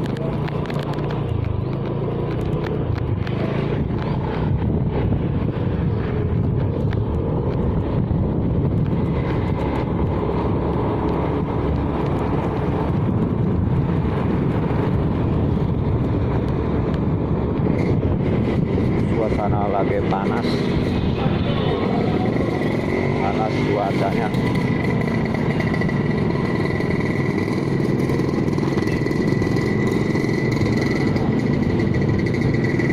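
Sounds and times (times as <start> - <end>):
vehicle engine and road noise: 0.0 - 32.9.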